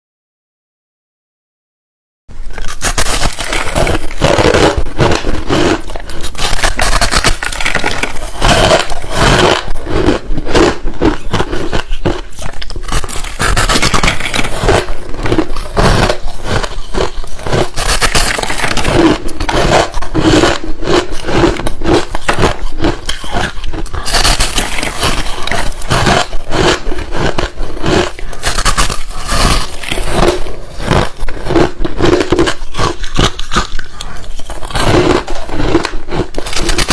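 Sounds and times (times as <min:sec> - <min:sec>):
person crunching ice: 0:02.4 - 0:36.9.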